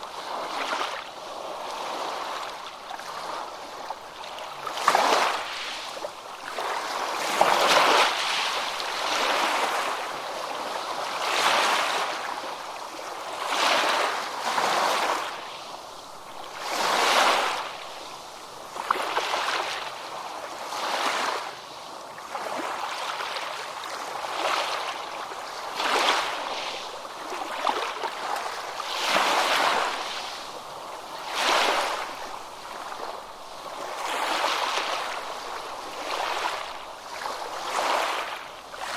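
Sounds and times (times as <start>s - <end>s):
small ocean waves breaking: 0.0s - 38.9s.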